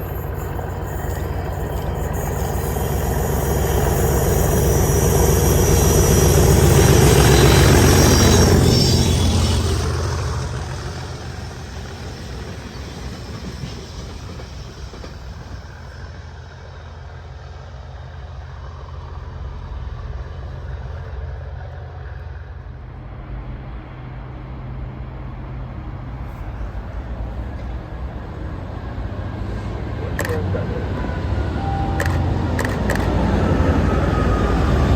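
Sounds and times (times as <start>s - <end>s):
diesel engine rumble: 0.0s - 34.9s
train passing: 0.0s - 34.9s.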